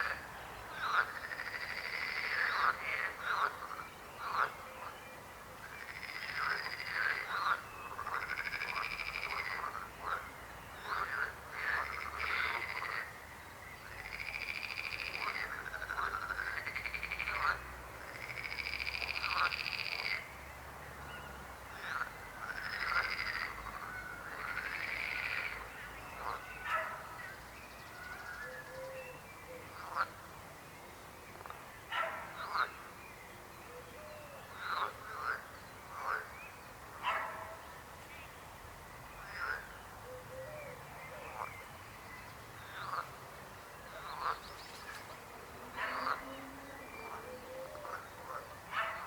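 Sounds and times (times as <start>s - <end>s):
frogs croaking: 0.0s - 5.0s, 5.6s - 20.4s, 21.6s - 28.6s, 29.5s - 30.3s, 31.3s - 33.0s, 34.5s - 37.5s, 39.2s - 41.7s, 42.3s - 49.0s.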